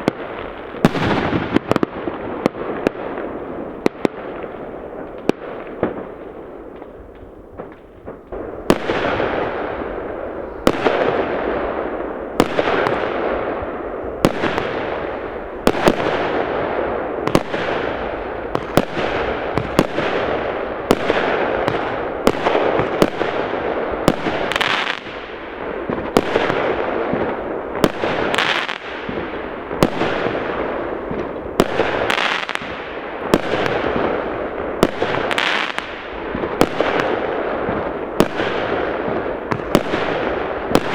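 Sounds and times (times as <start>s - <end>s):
small fireworks pops: 0.0s - 11.3s, 17.3s - 40.9s
fireworks bangs: 0.0s - 40.9s.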